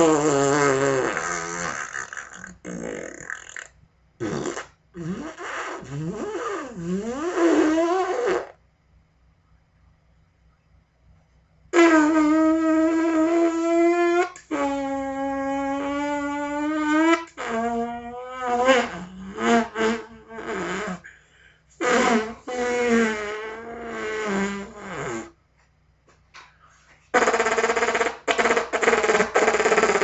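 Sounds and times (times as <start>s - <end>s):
farts: 0.0s - 8.6s, 11.7s - 21.2s, 21.8s - 25.4s, 27.1s - 30.0s.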